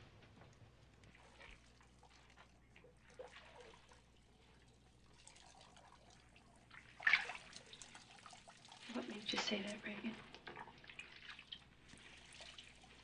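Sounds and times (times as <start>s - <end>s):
bathwater splashing and trickling: 0.0s - 13.0s.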